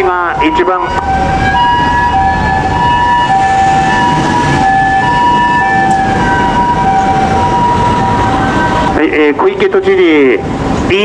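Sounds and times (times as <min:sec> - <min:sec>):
two-tone ambulance siren: 0:00.0 - 0:10.6
street traffic: 0:00.0 - 0:11.0.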